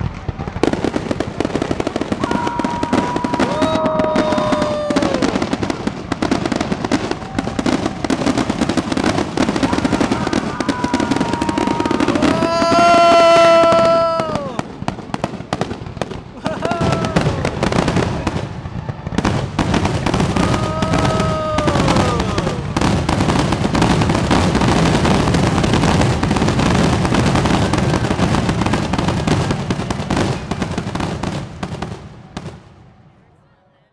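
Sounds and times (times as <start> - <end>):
fireworks bangs and crackles: 0.0 - 33.3.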